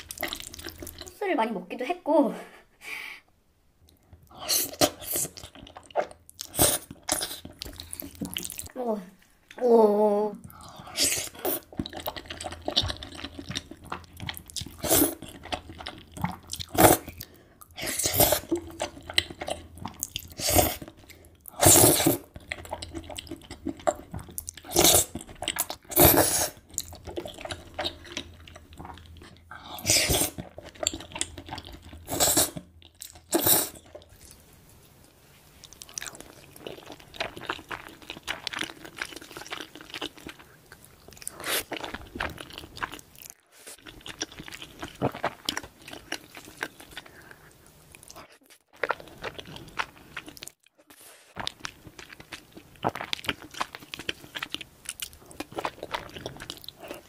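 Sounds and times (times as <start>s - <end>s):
chewing: 0.0s - 1.2s, 3.9s - 8.7s, 10.4s - 34.4s, 35.6s - 57.0s.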